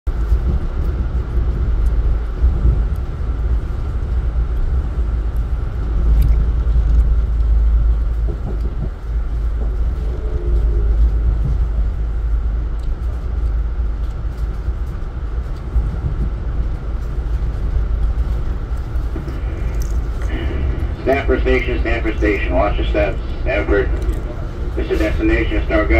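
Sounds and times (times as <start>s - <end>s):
train wheels rumbling: 0.1s - 25.9s.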